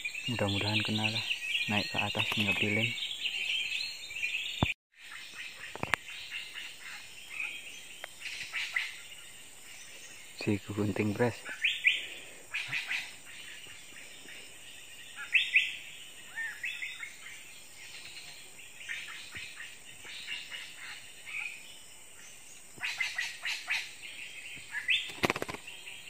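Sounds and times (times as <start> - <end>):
songbirds chirping and chattering: 0.0 - 26.0.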